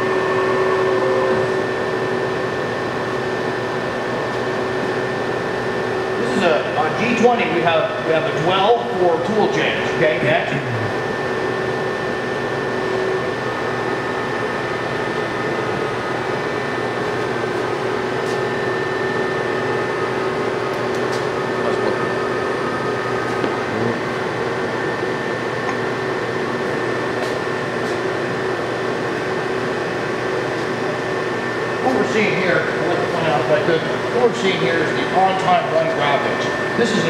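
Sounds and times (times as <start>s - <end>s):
milling machine spindle whine: 0.0s - 37.0s.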